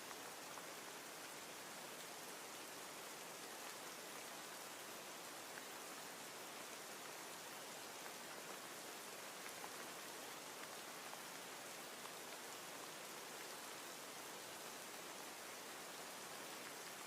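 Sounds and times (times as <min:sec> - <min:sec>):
faint rain hiss: 0:00.0 - 0:17.0.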